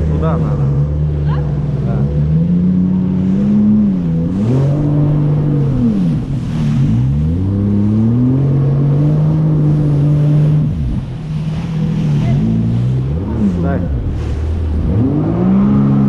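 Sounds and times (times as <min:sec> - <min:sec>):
jet ski engine running: 0:00.0 - 0:16.0.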